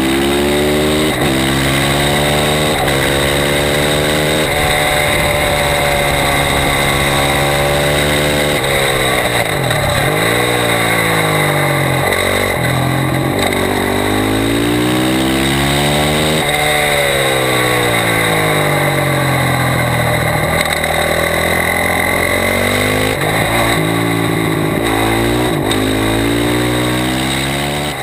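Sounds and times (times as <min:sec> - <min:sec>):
sport motorcycle engine revving: 0:00.0 - 0:28.0.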